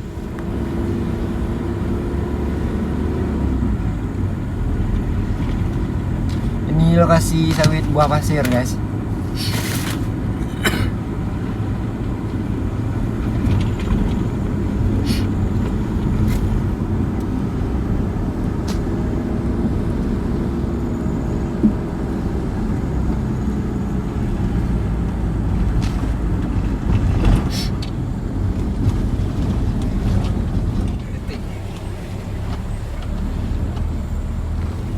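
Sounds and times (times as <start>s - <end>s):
truck engine running: 0.0s - 34.9s.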